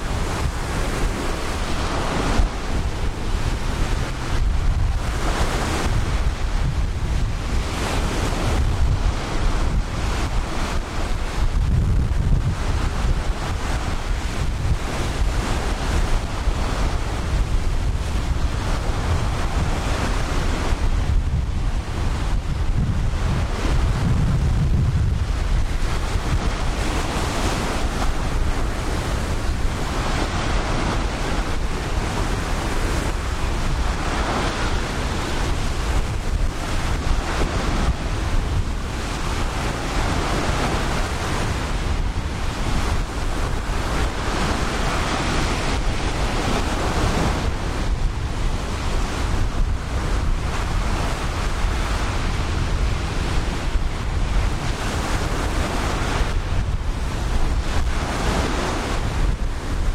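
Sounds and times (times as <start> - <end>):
ocean surf washing onto beach: 0.0 - 59.9
wind buffeting microphone: 0.0 - 59.9.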